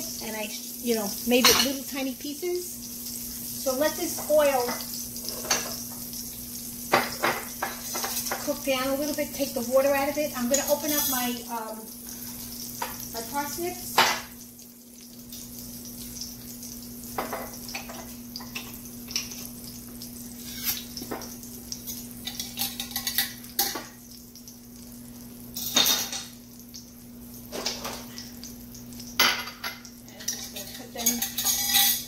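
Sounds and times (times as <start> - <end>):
oil sizzling in a pot: 0.0 - 32.0.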